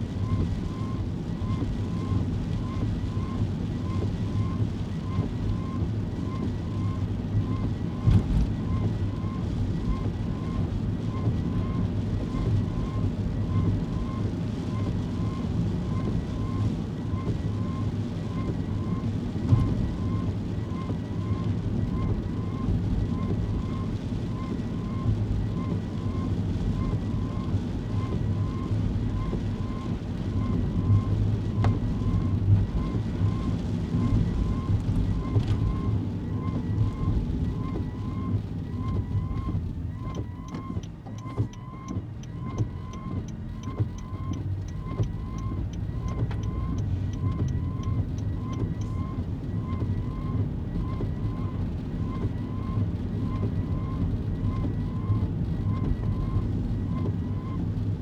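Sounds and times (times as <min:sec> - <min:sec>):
car engine and road hum: 0:00.0 - 0:58.0
faint electronic ticking: 0:00.1 - 0:58.0.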